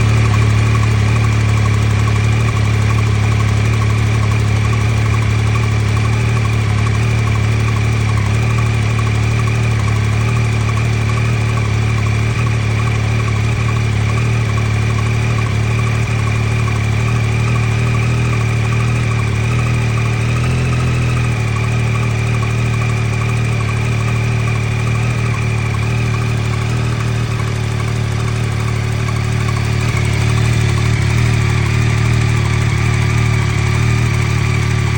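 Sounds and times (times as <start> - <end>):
engine ticking: 0.0 - 34.9
motorcycle engine idling: 0.0 - 34.9.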